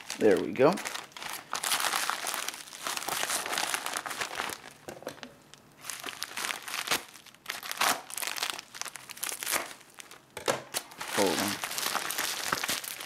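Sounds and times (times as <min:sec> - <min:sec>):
plastic mailer crinkling: 0:00.0 - 0:04.9, 0:05.8 - 0:10.2, 0:10.8 - 0:13.0.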